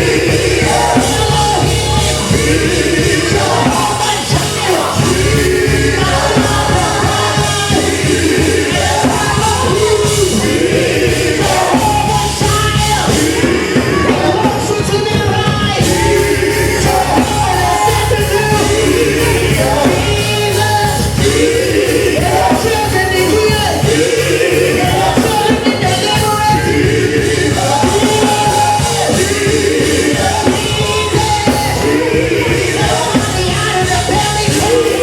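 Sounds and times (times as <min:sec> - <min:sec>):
band playing loudly: 0:00.0 - 0:35.0.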